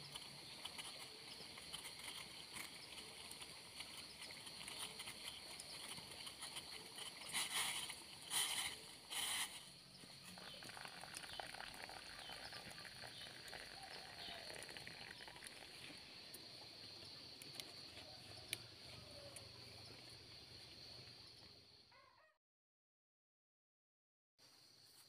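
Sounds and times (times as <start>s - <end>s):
faint insect chorus buzzing: 0.0s - 22.2s.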